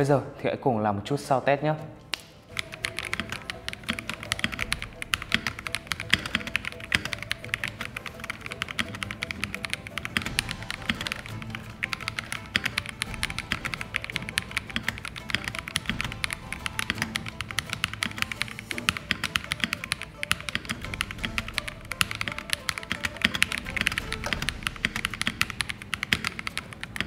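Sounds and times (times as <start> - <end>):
background music: 0.0 - 27.0
mechanical keyboard typing: 2.5 - 27.0.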